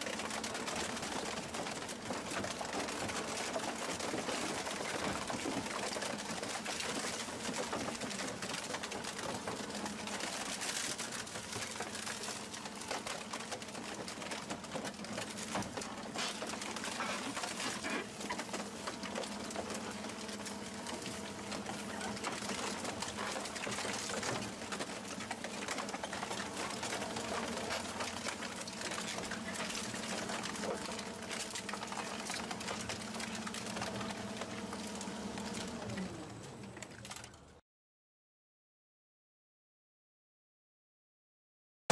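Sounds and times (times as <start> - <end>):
shredder crunching metal: 0.0 - 37.4.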